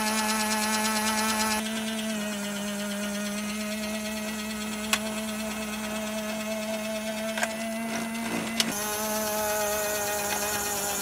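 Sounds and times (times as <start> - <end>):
toy motor whirring: 0.0 - 11.0.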